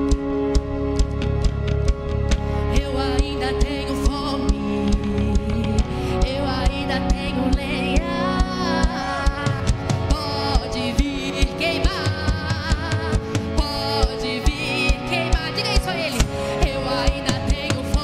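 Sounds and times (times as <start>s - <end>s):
bass: 0.0s - 18.0s
guitar: 0.0s - 18.0s
person singing: 2.6s - 18.0s.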